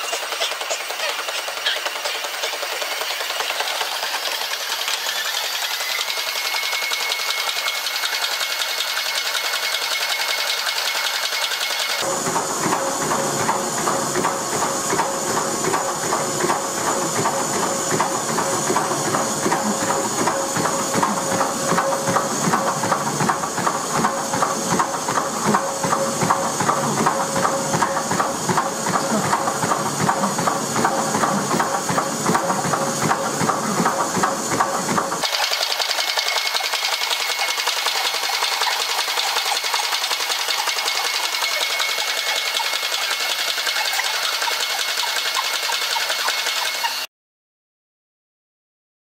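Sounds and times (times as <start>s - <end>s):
footfalls pounding treadmill belt: 0.0s - 47.1s
treadmill motor whine: 0.0s - 47.1s.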